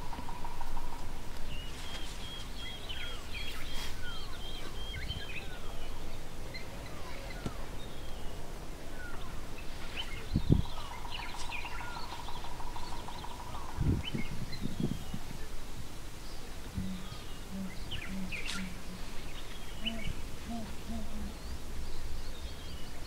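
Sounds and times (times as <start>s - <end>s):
wild birds calling: 0.0s - 23.0s.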